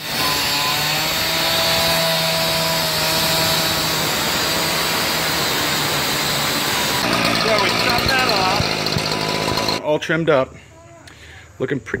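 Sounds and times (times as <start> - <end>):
cut-off saw engine: 0.0 - 9.8
abrasive disc grinding metal: 0.1 - 9.8.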